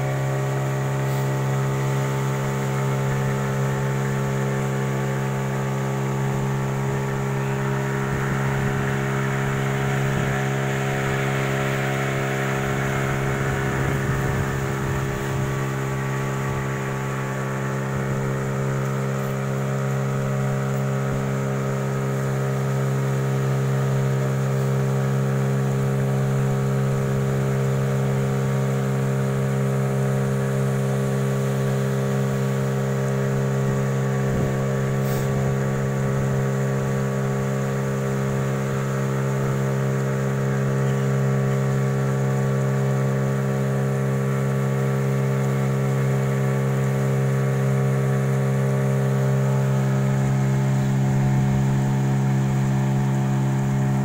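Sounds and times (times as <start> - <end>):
outboard motor droning: 0.0 - 54.0
water rushing along hull: 0.0 - 54.0.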